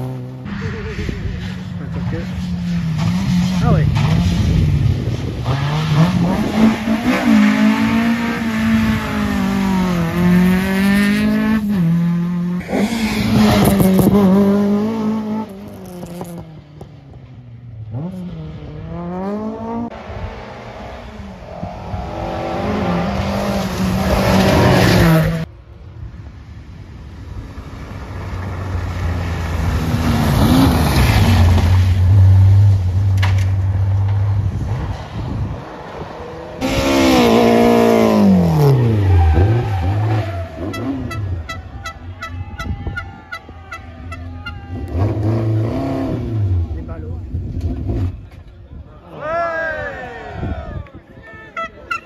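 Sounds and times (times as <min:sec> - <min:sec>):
rally car engines revving past: 0:00.0 - 0:25.5, 0:27.1 - 0:48.5.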